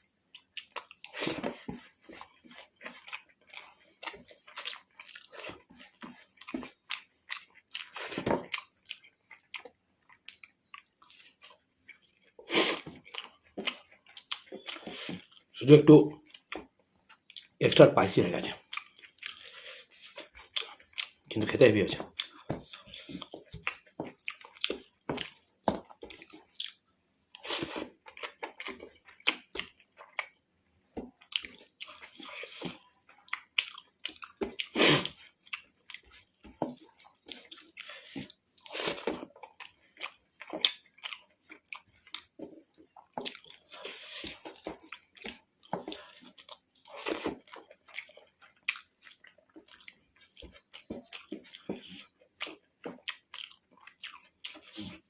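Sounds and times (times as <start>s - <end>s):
person chewing and biting food: 0.0s - 15.5s, 16.2s - 17.6s, 18.3s - 55.0s.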